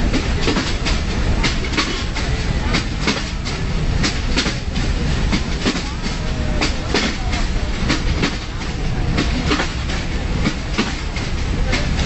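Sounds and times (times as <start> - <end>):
train running gear rumble: 0.0 - 12.0
train wheels clicking over rail joints: 0.0 - 12.0.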